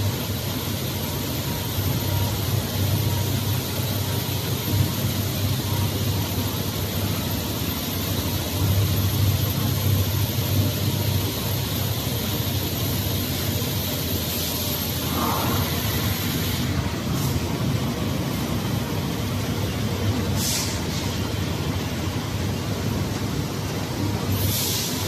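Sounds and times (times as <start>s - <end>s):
factory noise hiss: 0.0s - 25.0s
machinery low hum: 0.0s - 25.0s.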